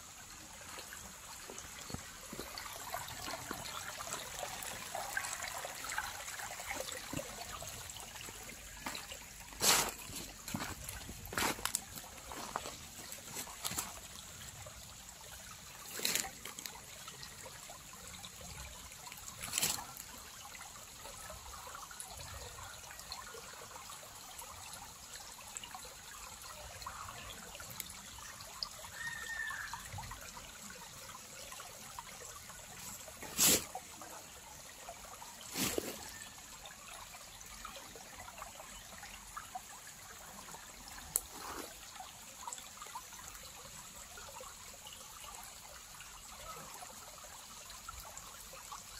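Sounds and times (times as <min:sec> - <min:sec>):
stream trickling over rocks: 0:00.0 - 0:48.9.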